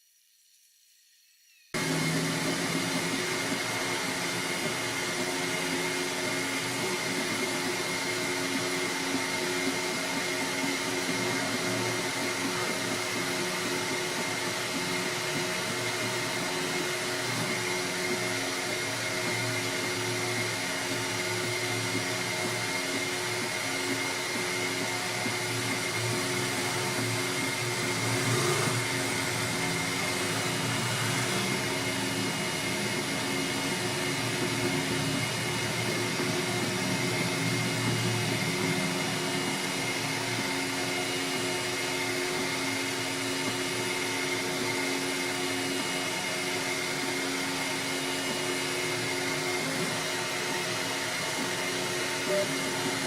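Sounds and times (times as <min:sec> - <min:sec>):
electric motors and fans whirring: 0:00.0 - 0:53.0
high whine: 0:01.2 - 0:44.2.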